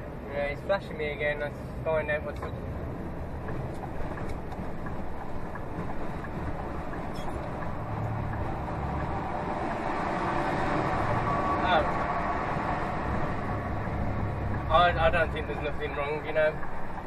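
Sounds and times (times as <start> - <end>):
lorry diesel engine rumble: 1.4 - 17.0.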